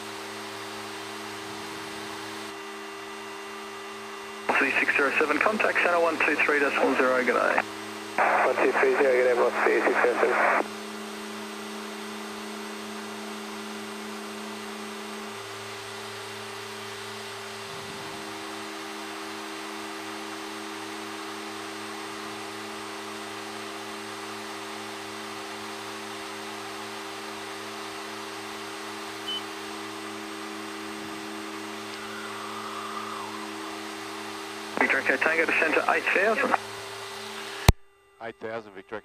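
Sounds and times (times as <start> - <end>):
turboprop aircraft drone in flight: 0.0 - 39.0.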